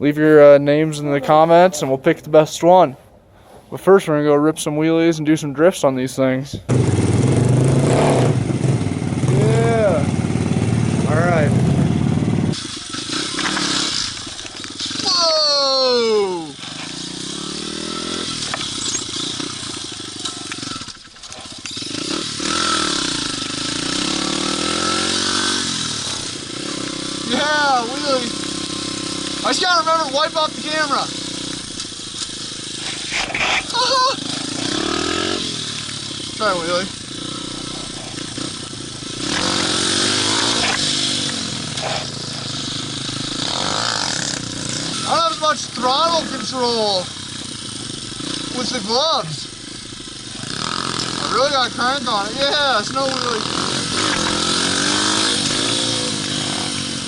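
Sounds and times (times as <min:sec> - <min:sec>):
small motorbike engine revving: 0:06.7 - 0:57.0.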